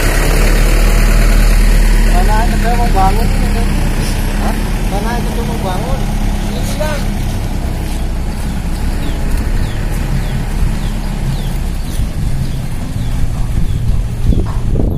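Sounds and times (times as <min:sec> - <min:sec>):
engine running steadily: 0:00.0 - 0:14.9
bird chirping: 0:02.1 - 0:14.9.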